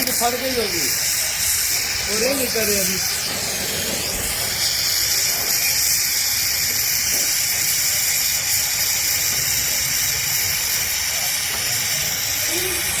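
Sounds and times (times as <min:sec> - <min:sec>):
welding torch flame hissing: 0:00.0 - 0:13.0.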